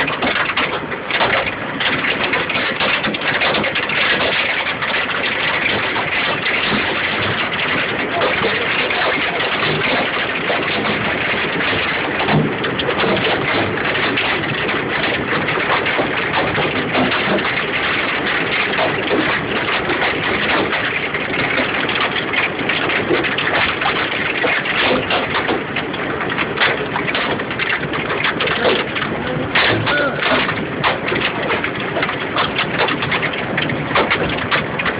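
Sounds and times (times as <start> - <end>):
hailstones striking surfaces: 0.0 - 34.9.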